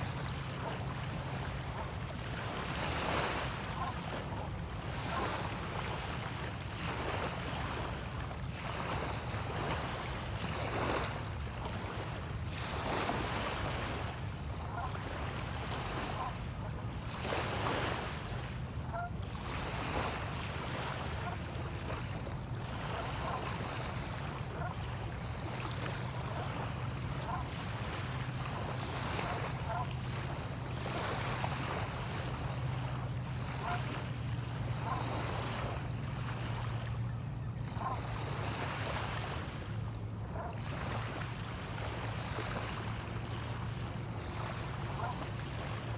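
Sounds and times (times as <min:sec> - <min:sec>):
small waves breaking on shore: 0:00.0 - 0:45.9.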